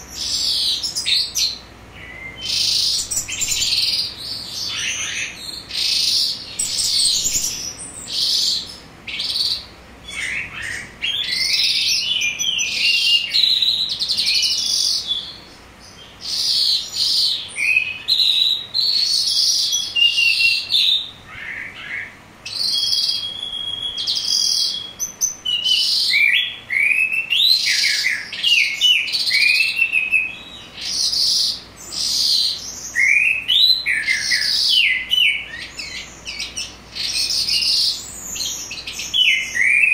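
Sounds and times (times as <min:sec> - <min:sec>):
lark singing: 0:00.0 - 0:39.9.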